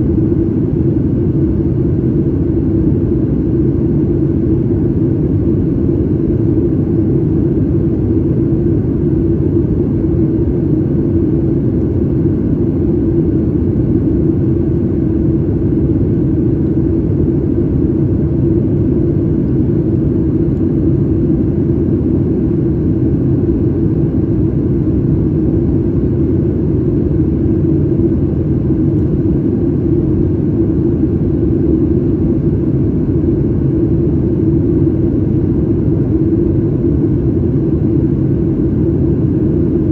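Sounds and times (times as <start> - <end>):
airliner engines and airflow rumble: 0.0 - 39.9
steady low hum: 0.0 - 39.9.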